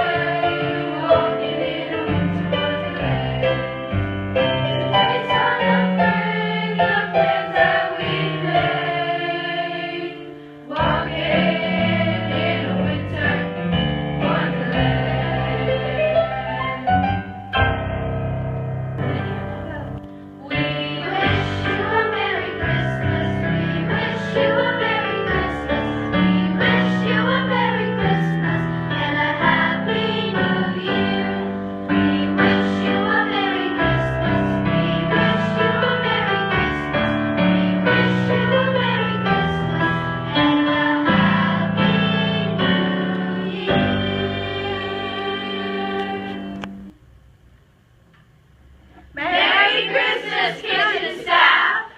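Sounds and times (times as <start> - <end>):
singing voices: 0.0 - 3.8, 4.5 - 17.4, 20.4 - 46.9, 49.0 - 51.9
piano accompaniment: 0.0 - 47.0.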